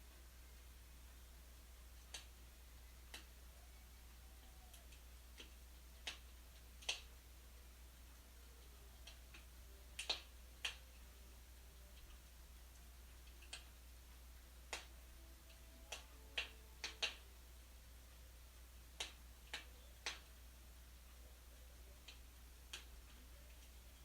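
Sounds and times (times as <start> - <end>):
faint low hum: 0.0 - 24.0
wood fire crackling: 0.0 - 24.0.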